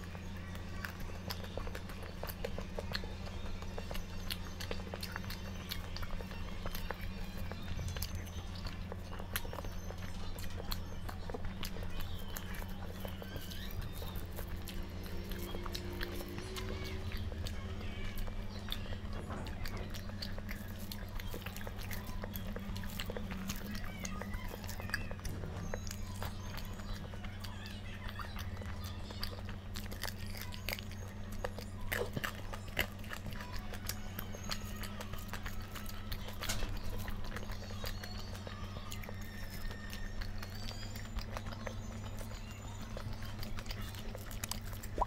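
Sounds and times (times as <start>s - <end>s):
person chewing food: 0.0s - 45.0s
steady low hum: 0.0s - 45.0s.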